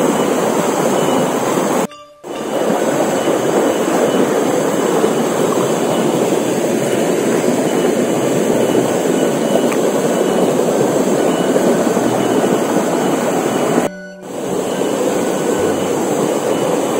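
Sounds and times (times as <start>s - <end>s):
waterfall rushing over rocks: 0.0s - 16.9s.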